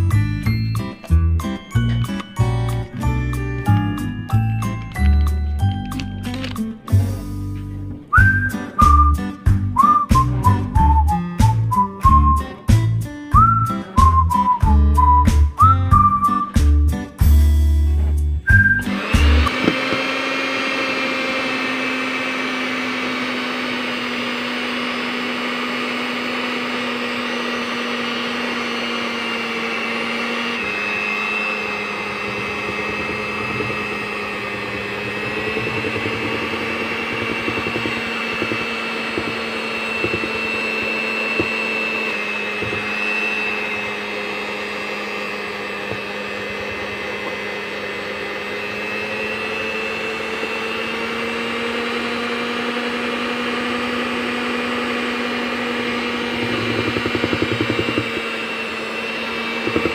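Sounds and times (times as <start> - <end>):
electric hand mixer whisking: 0.0 - 16.8, 18.0 - 59.9.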